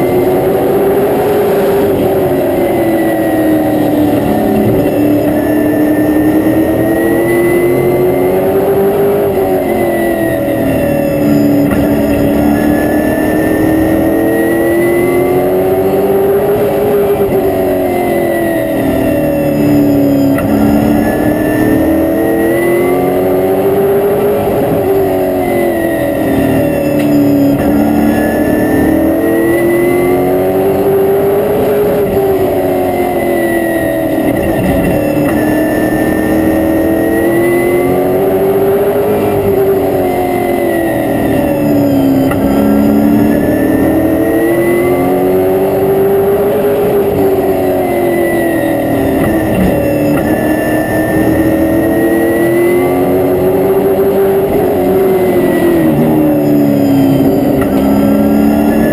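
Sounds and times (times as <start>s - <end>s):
high whine: 0.0s - 58.9s
race car engine: 0.0s - 58.9s.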